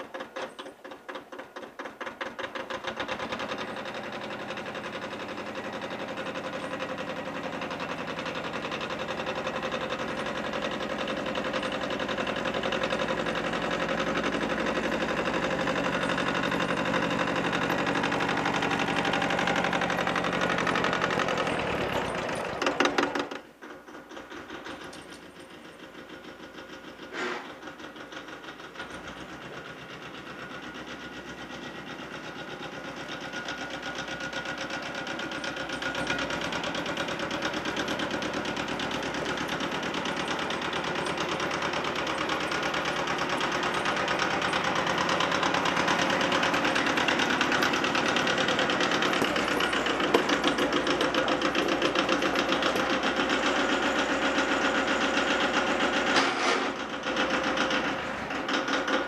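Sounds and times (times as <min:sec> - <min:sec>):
tractor diesel engine chugging: 0:00.0 - 0:59.0.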